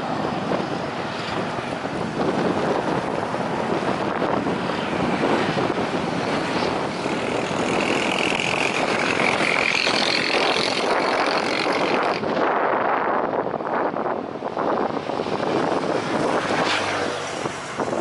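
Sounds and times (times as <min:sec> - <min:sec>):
high engine whine: 0:00.0 - 0:18.0
jet engines rushing: 0:00.0 - 0:18.0.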